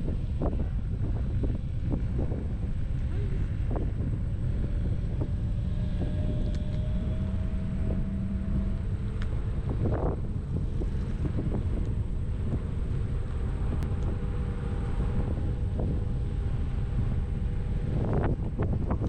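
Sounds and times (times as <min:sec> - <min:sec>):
steady low hum: 0:00.0 - 0:19.0
wind rumbling on microphone: 0:00.0 - 0:19.0.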